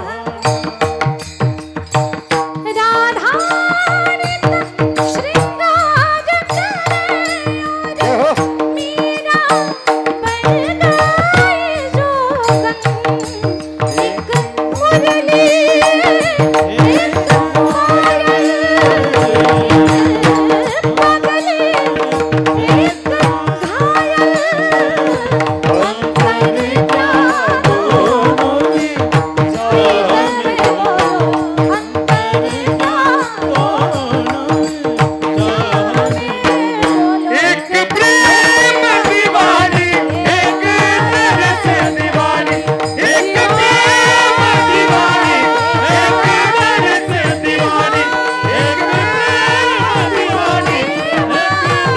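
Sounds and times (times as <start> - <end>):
devotional melody: 0.0 - 51.9
fast hand drum strokes: 0.0 - 51.9.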